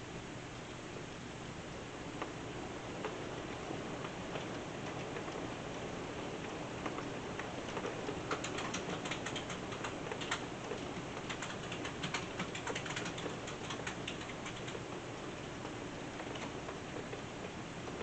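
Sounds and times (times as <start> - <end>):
steady rain: 0.0 - 18.0
raindrops ticking on hard surface: 3.0 - 15.0, 15.6 - 18.0.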